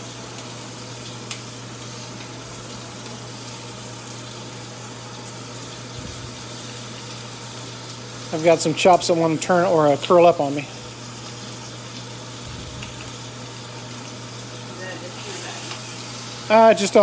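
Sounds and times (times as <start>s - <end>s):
beans frying in oil: 0.0s - 17.0s
meat sizzling on grill pan: 0.0s - 17.0s
range hood fan humming: 0.0s - 17.0s.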